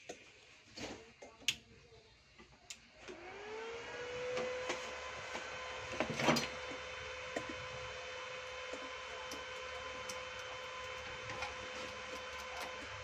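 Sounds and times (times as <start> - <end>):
cooling fan humming: 0.0 - 13.0.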